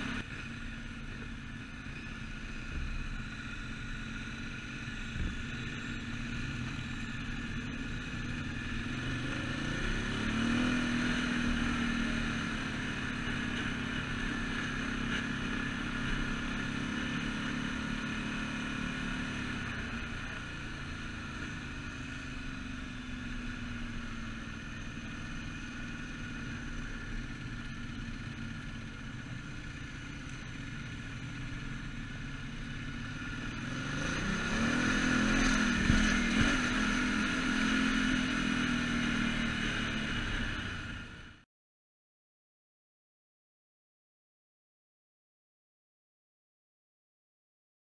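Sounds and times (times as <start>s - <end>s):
motorcycle engine running: 0.0s - 41.4s.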